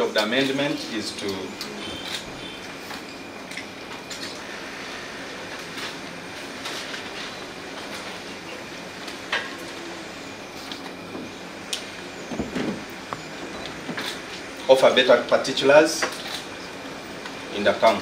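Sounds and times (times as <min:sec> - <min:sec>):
steady room hiss: 0:00.0 - 0:18.0.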